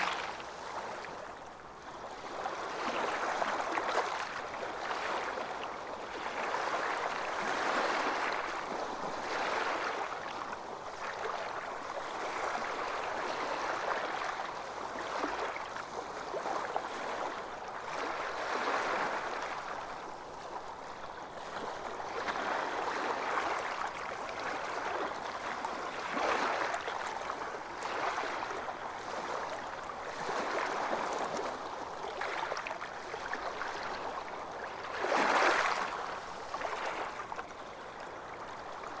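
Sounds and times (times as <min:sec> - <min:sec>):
small waves washing onto a beach: 0:00.0 - 0:39.0.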